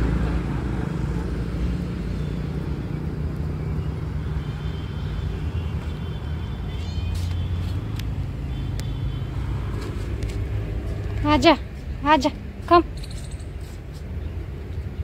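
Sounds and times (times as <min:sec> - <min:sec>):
low outdoor rumble: 0:00.0 - 0:13.9.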